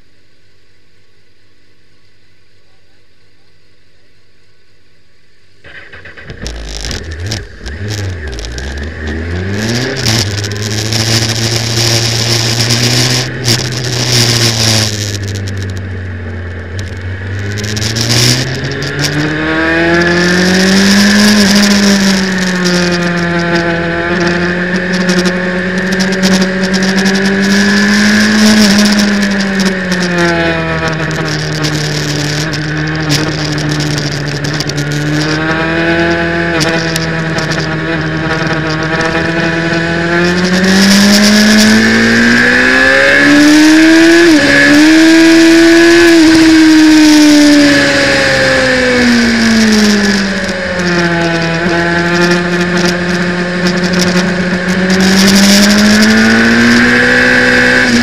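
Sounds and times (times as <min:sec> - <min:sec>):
motorcycle engine revving: 0:05.5 - 0:58.0.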